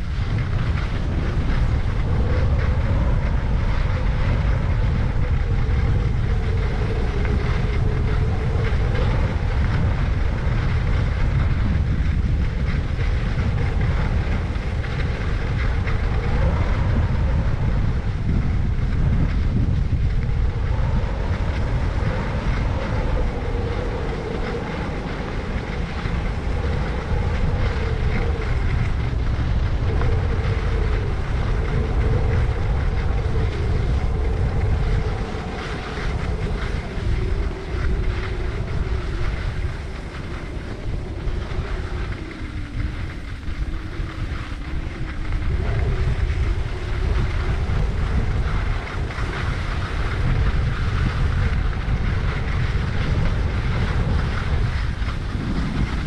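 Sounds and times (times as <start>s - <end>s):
skis running over snow: 0.0s - 56.0s
wind buffeting microphone: 0.0s - 56.0s.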